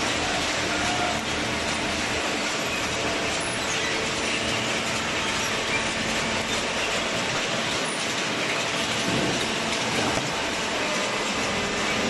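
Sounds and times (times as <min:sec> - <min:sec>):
chain conveyor clattering: 0:00.0 - 0:12.0.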